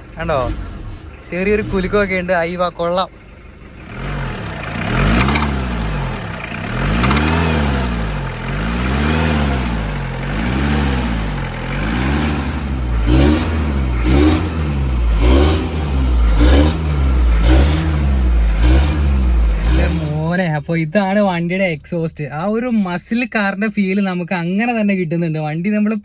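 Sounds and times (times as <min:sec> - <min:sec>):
car engine revving: 0:00.0 - 0:23.3.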